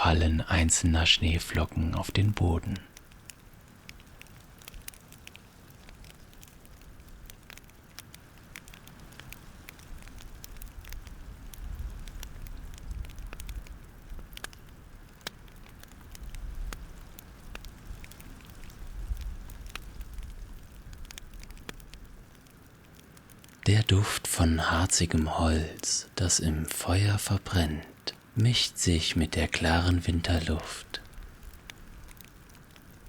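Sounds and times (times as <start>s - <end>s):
burning wood crackling and popping: 0.0s - 33.0s
low rumble of flames: 0.0s - 33.0s.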